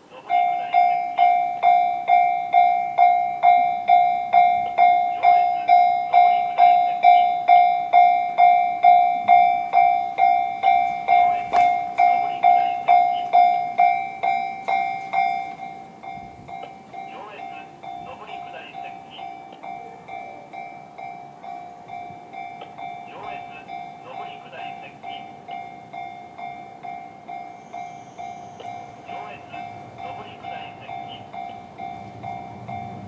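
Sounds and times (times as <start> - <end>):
level crossing warning bell dings: 0.0 - 33.0.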